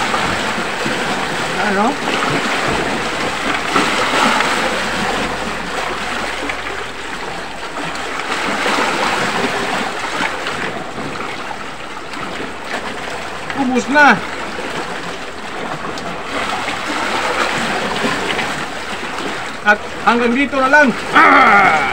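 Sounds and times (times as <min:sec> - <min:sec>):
waves washing against rocky shore: 0:00.0 - 0:21.9.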